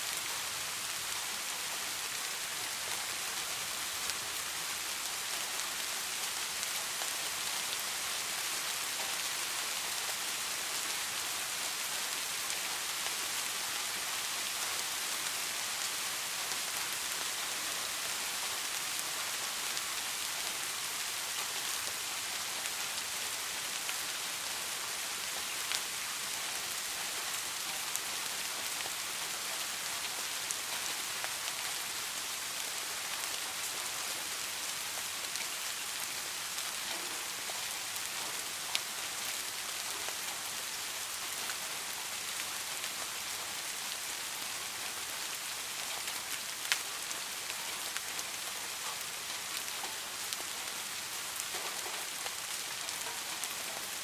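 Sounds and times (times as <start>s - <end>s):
rain hissing: 0.0s - 54.0s
raindrops ticking on a surface: 0.1s - 54.0s.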